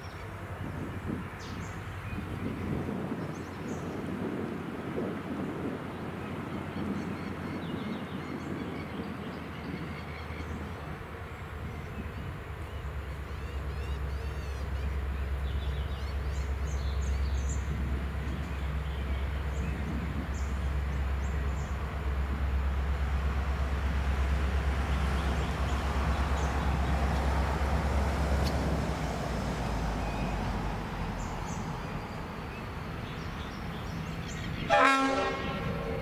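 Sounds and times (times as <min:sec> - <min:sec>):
diesel locomotive engine rumble: 0:00.0 - 0:36.0
train wheel and rail noise: 0:00.0 - 0:36.0
birds chirping: 0:05.6 - 0:36.0.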